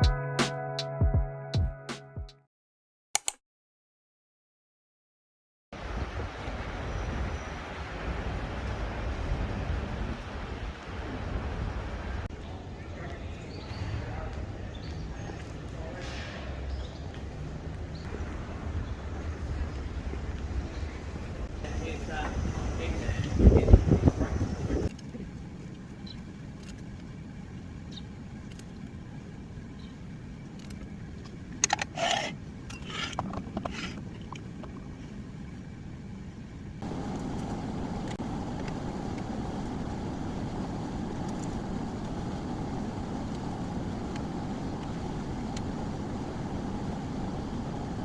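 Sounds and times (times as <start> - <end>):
vehicle running noise: 5.8 - 48.0
loud steady rumble: 8.0 - 48.0.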